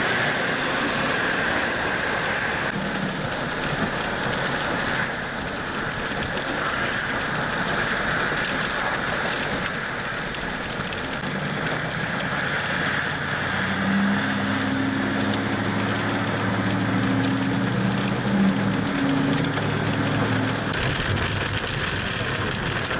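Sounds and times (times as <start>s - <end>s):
hail and rain falling: 0.0s - 22.9s
truck engine humming: 0.0s - 22.9s.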